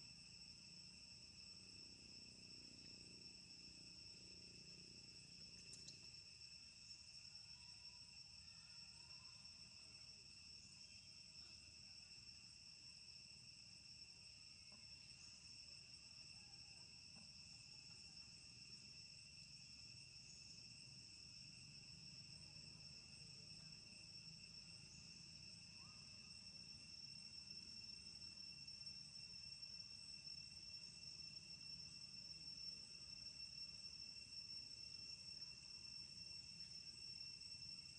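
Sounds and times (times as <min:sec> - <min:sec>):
insect drone: 0:00.0 - 0:37.9.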